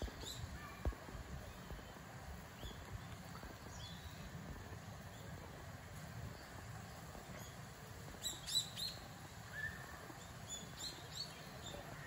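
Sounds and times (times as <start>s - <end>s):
faint outdoor rumble: 0.0s - 12.0s.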